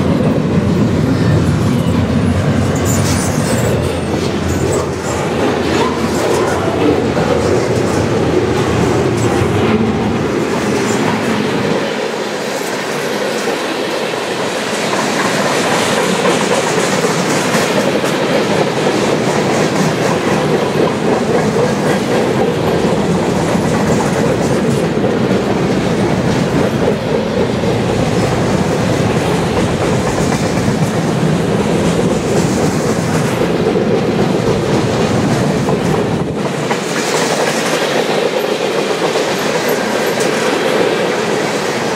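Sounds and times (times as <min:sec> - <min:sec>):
freight cars rolling on rails: 0:00.0 - 0:41.9.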